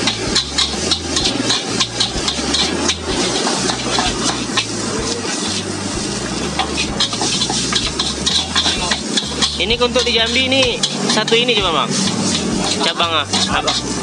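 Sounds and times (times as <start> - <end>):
metal spatula scraping a wok: 0.0 - 14.0
rice sizzling: 0.0 - 14.0.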